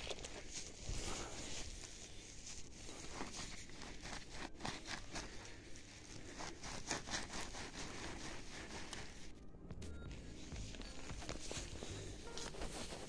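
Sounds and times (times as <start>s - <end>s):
footsteps through dry grass: 0.0s - 13.0s.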